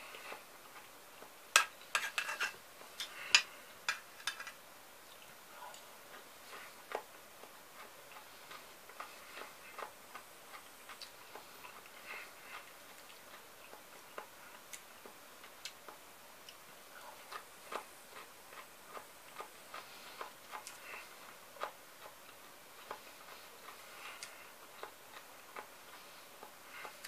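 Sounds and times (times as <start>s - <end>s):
cucumber crunching while chewing: 5.1s - 27.0s.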